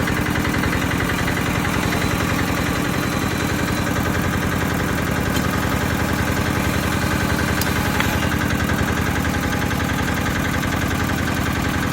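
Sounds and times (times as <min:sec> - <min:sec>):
boring machine engine chugging: 0:00.0 - 0:11.9.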